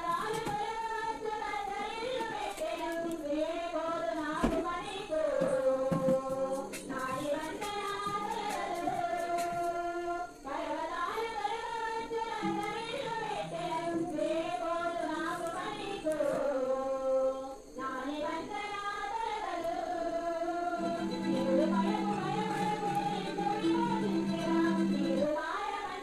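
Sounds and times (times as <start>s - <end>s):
music with wavering sung notes: 0.0s - 26.0s.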